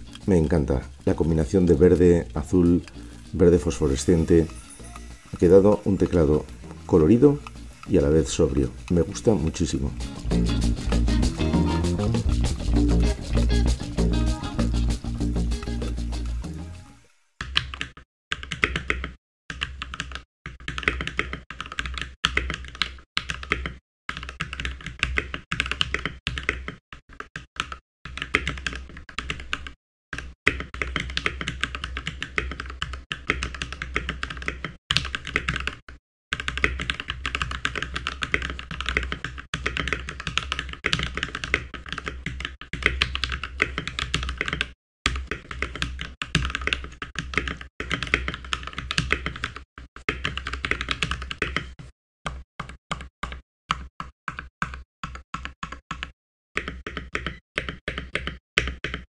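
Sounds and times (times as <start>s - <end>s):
mechanical keyboard typing: 0.0s - 11.6s, 17.4s - 51.7s, 52.3s - 59.0s.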